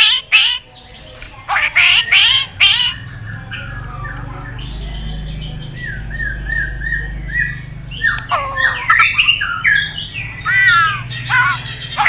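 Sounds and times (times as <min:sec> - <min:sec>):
songbird singing: 0:00.0 - 0:12.0
steady low hum: 0:00.0 - 0:12.0.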